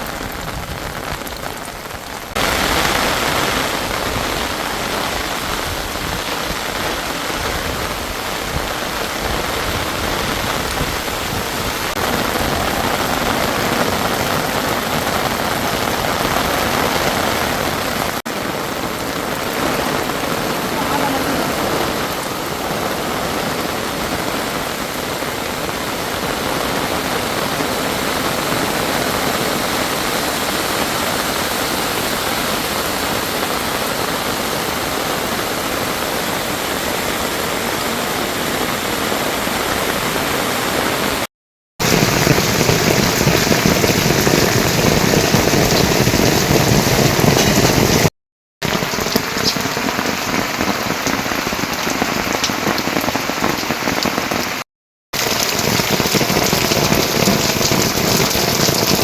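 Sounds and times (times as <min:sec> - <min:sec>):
heavy rain falling: 0:00.0 - 0:54.6, 0:55.2 - 0:59.0.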